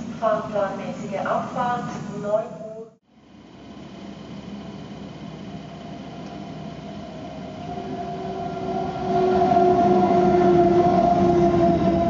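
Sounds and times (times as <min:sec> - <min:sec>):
electric train hum and rumble: 0:00.0 - 0:12.0.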